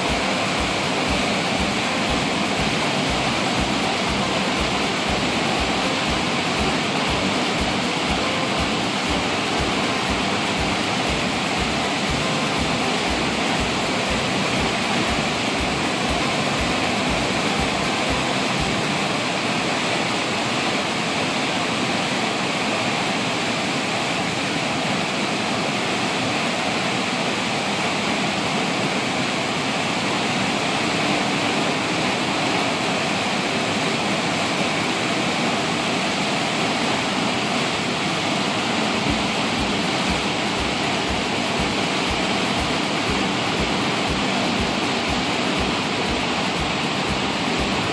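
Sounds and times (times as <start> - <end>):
water rushing through spillway: 0.0 - 47.9.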